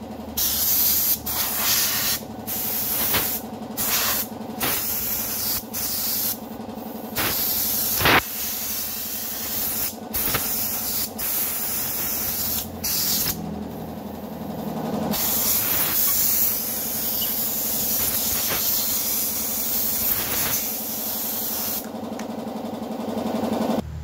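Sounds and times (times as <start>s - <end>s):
air compressor humming: 0.0s - 24.0s
compressed air hissing: 0.4s - 13.4s, 15.1s - 21.8s.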